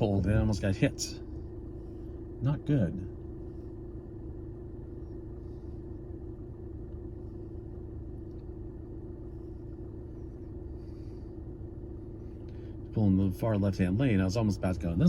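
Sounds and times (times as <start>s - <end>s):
car interior road rumble: 0.0s - 15.0s
constant hum: 0.0s - 15.0s.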